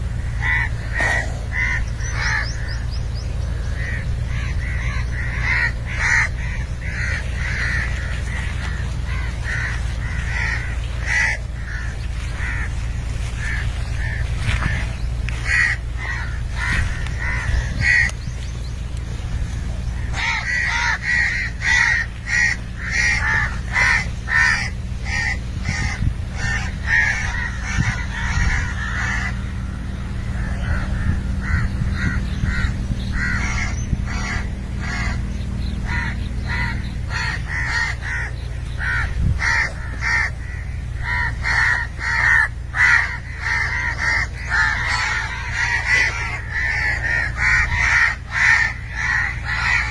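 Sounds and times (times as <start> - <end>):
flock of birds calling harshly: 0.0 - 49.9
steady low rumble: 0.0 - 49.9.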